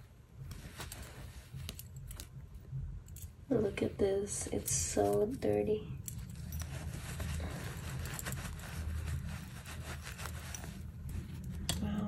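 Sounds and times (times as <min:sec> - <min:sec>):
cloth rubbing on metal: 0:00.0 - 0:02.7, 0:03.5 - 0:12.0.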